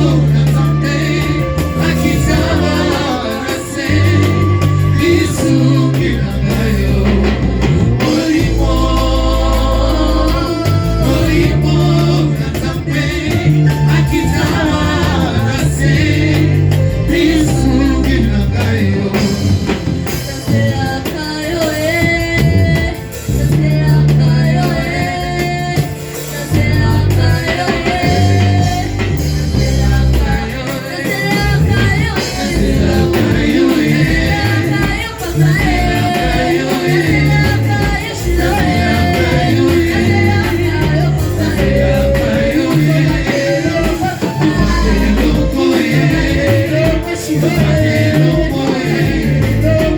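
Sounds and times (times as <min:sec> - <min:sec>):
band with bass and drums: 0:00.0 - 0:49.9
person singing: 0:00.0 - 0:49.9.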